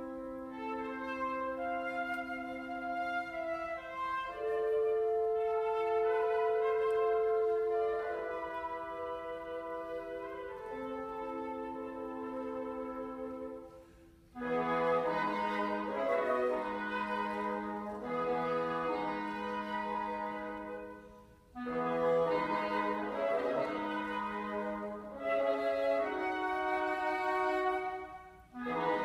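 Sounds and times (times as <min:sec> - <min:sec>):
woodwind trio playing chords: 0:00.0 - 0:29.0.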